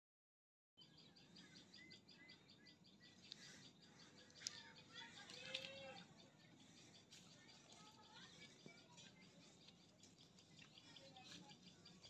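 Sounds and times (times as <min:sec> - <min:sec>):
faint birdsong chirps: 0:00.8 - 0:12.0.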